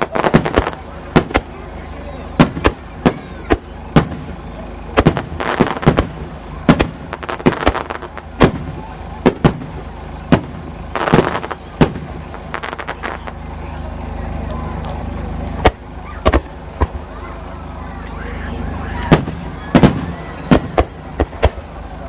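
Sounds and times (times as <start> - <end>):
fireworks bursting with sharp bangs: 0.0 - 22.0
fireworks crackling: 0.0 - 22.0.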